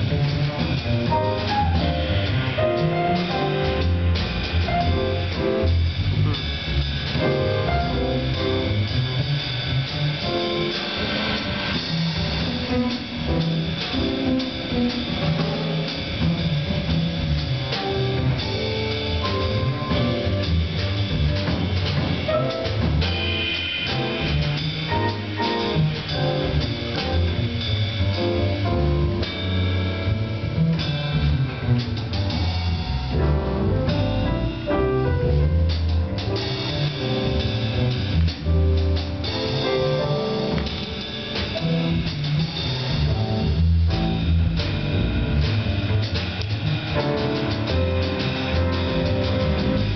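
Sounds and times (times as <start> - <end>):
drum kit: 0.0 - 49.9
piano: 0.0 - 49.9
upright bass: 0.0 - 49.9.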